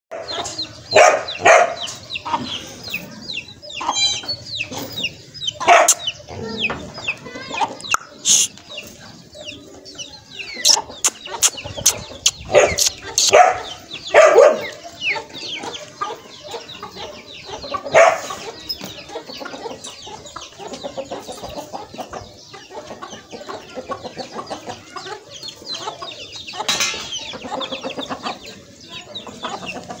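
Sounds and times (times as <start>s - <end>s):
chickens clucking: 0.1s - 30.0s.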